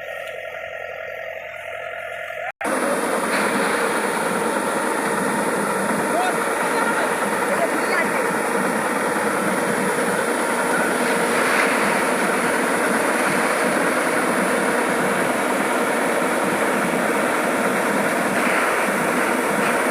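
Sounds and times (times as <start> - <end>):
combine harvester running: 0.0 - 19.9.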